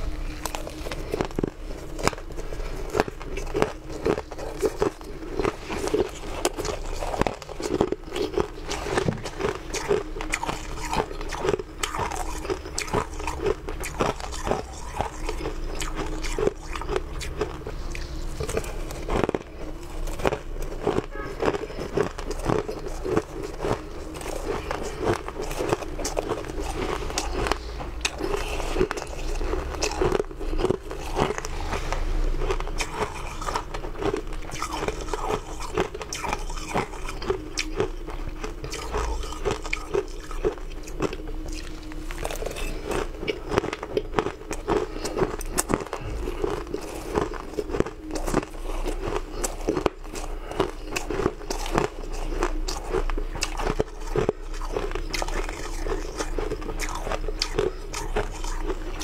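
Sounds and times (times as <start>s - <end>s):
ice being chewed and crunched: 0.0s - 59.0s.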